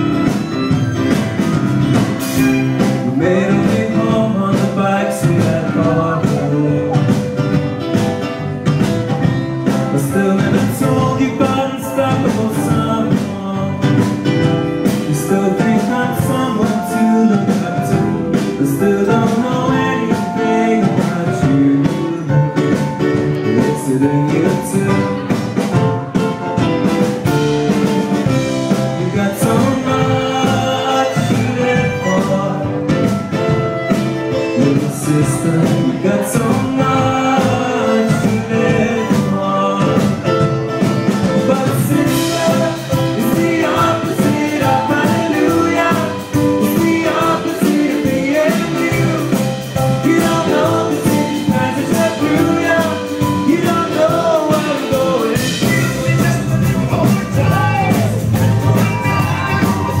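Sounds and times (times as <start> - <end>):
live pop band with acoustic guitar: 0.0 - 60.0.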